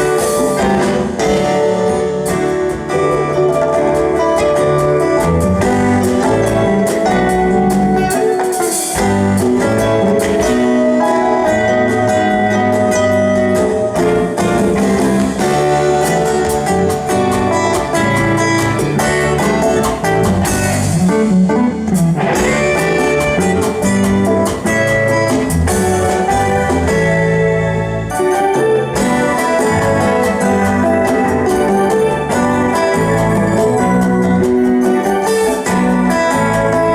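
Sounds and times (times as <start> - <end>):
guitar: 0.0 - 36.9
keyboard: 0.0 - 36.9
steady drum beat: 0.0 - 36.9.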